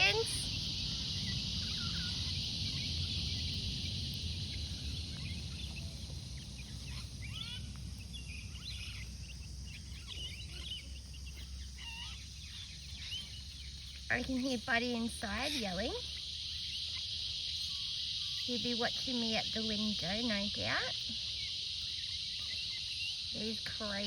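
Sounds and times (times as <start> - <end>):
baby chicks peeping: 0.0 - 24.0
high insect drone: 0.0 - 24.0.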